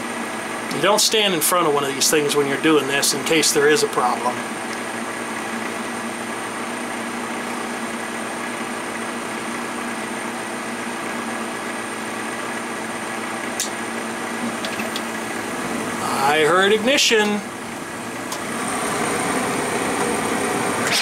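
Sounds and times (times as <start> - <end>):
furnace blower humming: 0.0 - 21.0.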